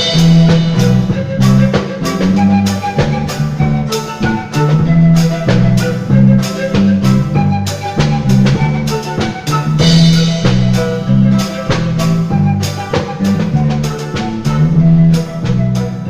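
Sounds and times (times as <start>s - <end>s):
drums beating: 0.0s - 16.0s
folk band playing: 0.0s - 16.0s.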